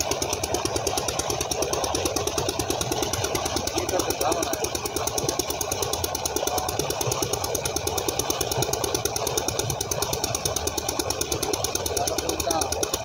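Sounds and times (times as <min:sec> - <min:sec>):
pump engine knocking: 0:00.0 - 0:13.0
water gushing and splashing: 0:00.0 - 0:13.0.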